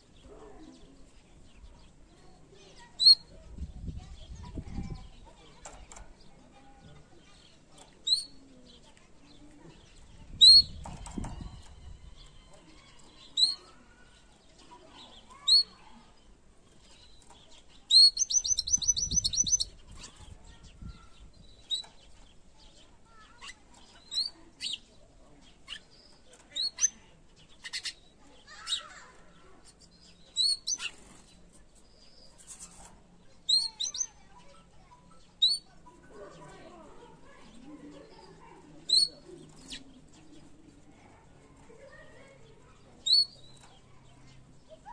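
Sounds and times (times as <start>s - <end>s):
canary chirping: 0.0s - 3.5s, 4.1s - 44.9s
canary trill: 1.8s - 3.5s, 4.1s - 44.9s.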